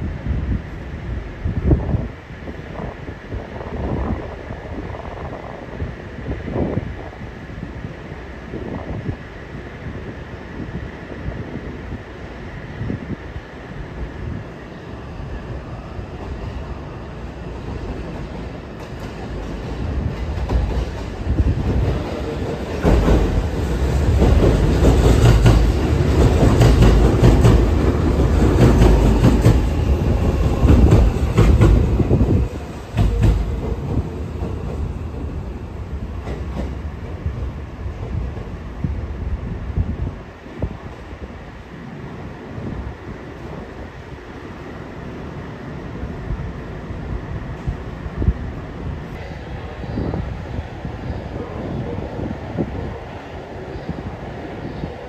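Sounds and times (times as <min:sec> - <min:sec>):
electric train passing: 0:00.0 - 0:55.0.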